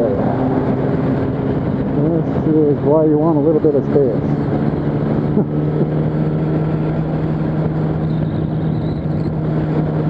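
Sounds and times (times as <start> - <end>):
motorcycle engine running steadily: 0.0 - 10.0
wind and road rush: 0.0 - 10.0.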